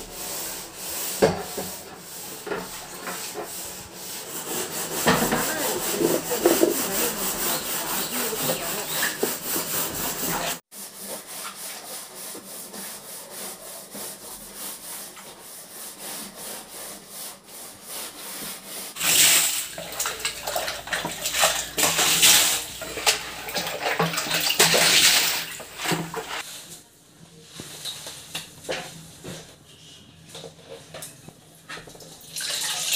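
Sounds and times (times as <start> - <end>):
scouring pad scrubbing plastic: 0.0 - 26.6.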